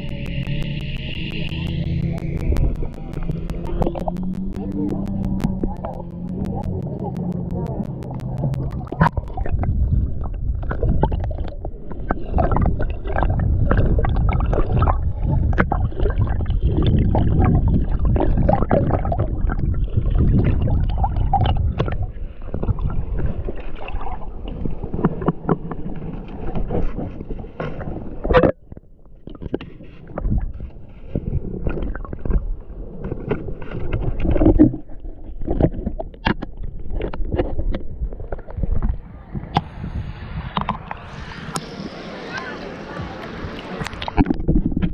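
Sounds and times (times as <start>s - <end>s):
underwater knocks and clicks: 0.0s - 39.7s, 43.8s - 44.9s
muffled underwater water gurgling: 0.0s - 44.9s.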